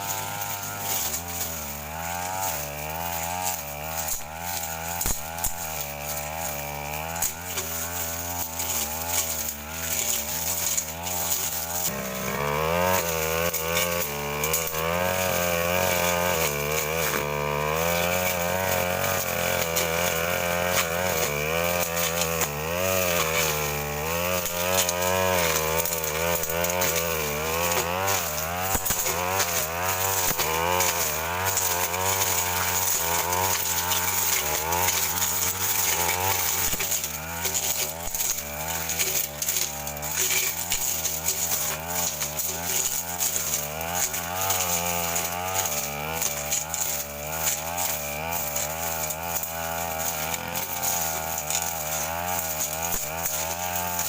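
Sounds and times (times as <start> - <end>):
brush cutter running under load: 0.0 - 54.0.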